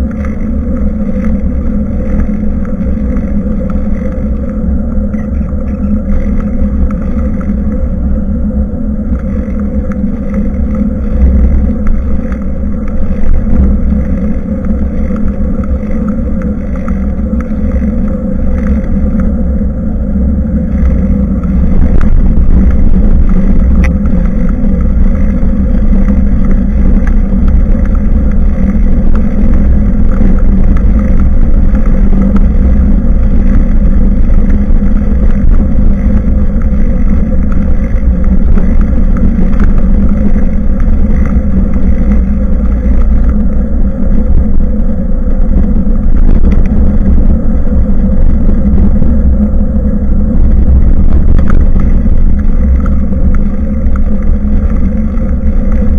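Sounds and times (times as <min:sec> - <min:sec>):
bicycle riding vibration: 0:00.0 - 0:55.9
constant low hum: 0:00.0 - 0:55.9
wind rumble on microphone: 0:00.0 - 0:55.9.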